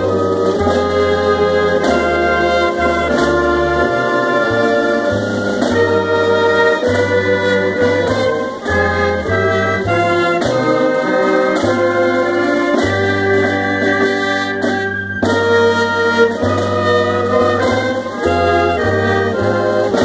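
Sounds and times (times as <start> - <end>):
brass band playing held chords: 0.0 - 20.0.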